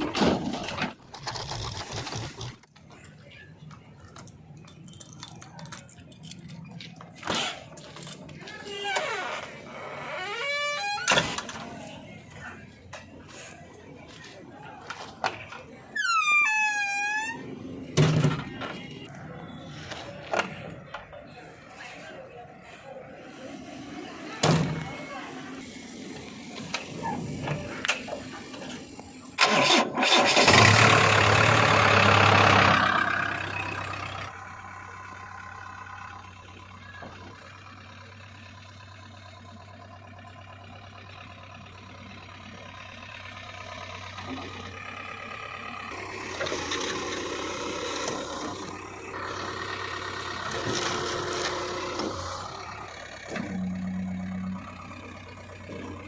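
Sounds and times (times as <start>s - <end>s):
diesel engine starting and idling: 0.0s - 56.0s.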